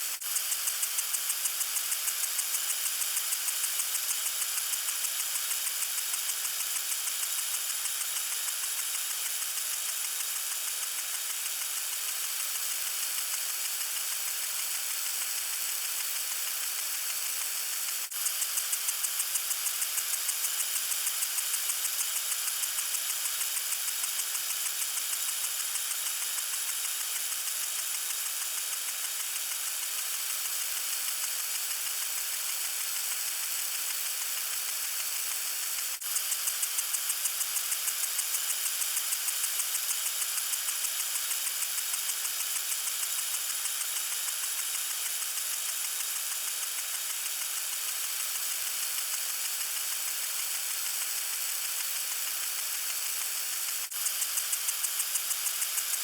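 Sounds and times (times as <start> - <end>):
garden sprinkler spraying water: 0.0 - 56.0.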